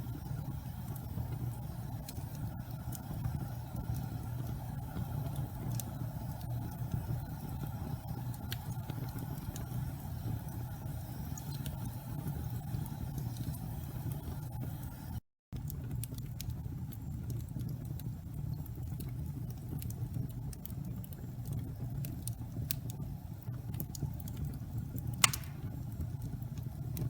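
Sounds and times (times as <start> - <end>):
fire rumbling: 0.0 - 27.0
wood fire crackling and popping: 0.0 - 27.0.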